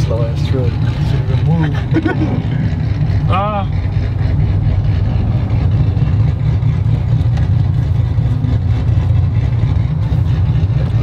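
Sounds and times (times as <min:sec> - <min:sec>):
pickup truck engine rumbling: 0:00.0 - 0:11.0.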